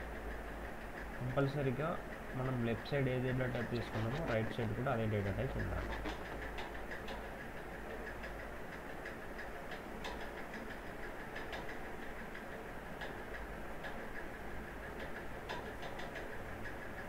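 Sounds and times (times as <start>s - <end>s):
steady hiss and hum: 0.0s - 17.0s.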